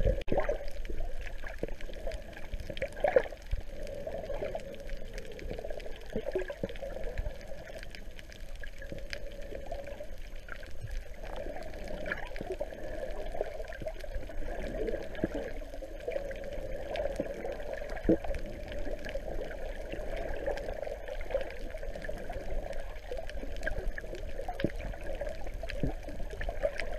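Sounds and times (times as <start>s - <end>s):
underwater sloshing and gurgling: 0.0s - 26.9s.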